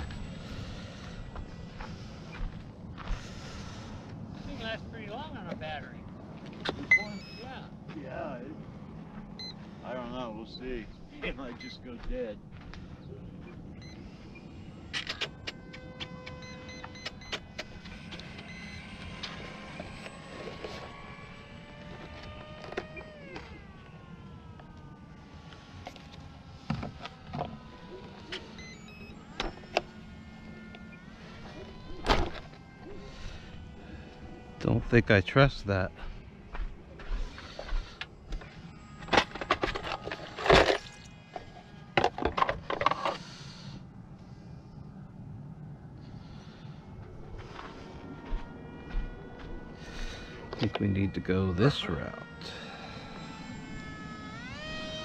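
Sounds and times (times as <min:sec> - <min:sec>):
low wind rumble: 0:00.0 - 0:39.7, 0:40.8 - 0:50.8
small electric airplane whining: 0:00.0 - 0:55.0.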